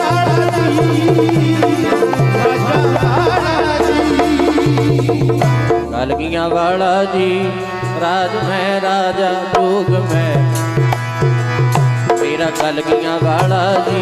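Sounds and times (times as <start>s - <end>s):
hand drums: 0.0s - 8.7s, 9.5s - 14.0s
harmonium melody: 0.0s - 14.0s.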